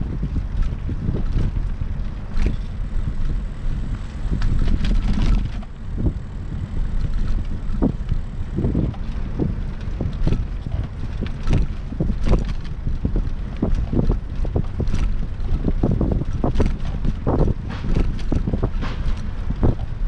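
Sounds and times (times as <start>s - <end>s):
bicycle knocks and rattles: 0.0s - 20.0s
wind buffeting microphone: 0.0s - 20.0s.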